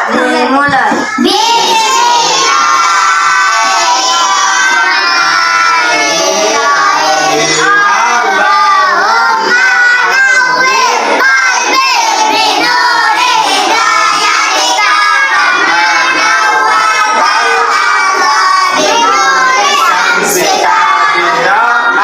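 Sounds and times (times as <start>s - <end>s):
children reciting in chorus: 0.0s - 22.0s.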